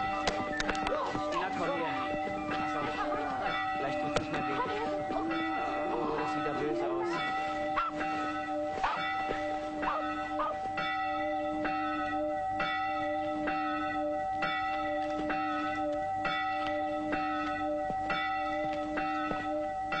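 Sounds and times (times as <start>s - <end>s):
church bell ringing: 0.0s - 20.0s.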